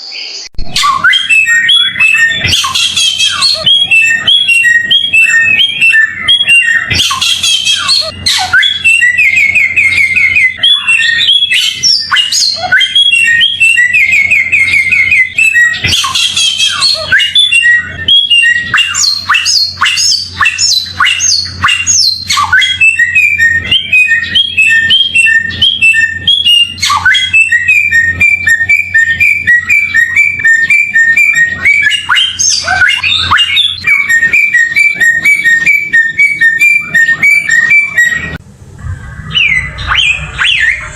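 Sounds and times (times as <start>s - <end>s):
songbird singing chirps: 0.0s - 40.9s
high rattling bird trills: 0.7s - 38.4s.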